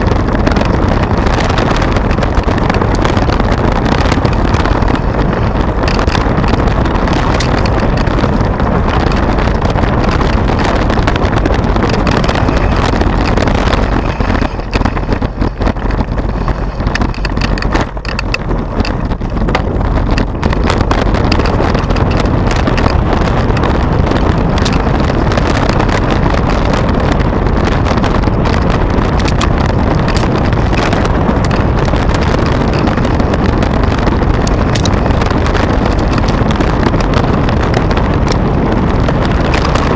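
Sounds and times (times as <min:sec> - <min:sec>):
bike rattling over stones: 0:00.0 - 0:39.9
wind rushing over microphone: 0:00.0 - 0:39.9.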